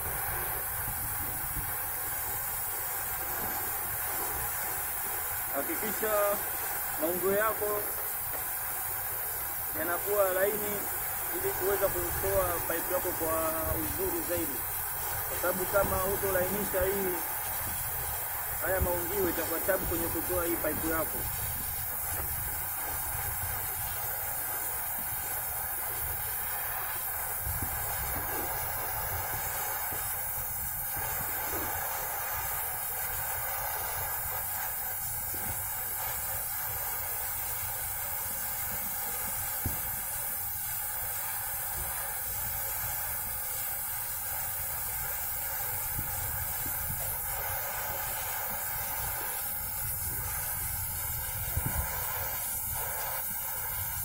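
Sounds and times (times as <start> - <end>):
welding torch flame hissing: 0.0 - 54.0.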